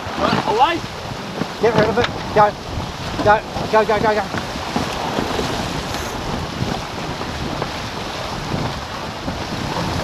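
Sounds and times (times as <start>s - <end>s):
water rushing past hulls: 0.0s - 10.0s
wind buffeting microphone: 0.0s - 10.0s.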